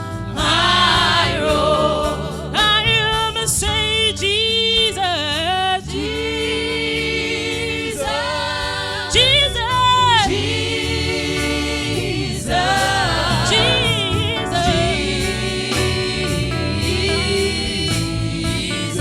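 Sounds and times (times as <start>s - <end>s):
gospel worship singing: 0.0s - 19.0s
keyboard or organ accompaniment: 0.0s - 19.0s.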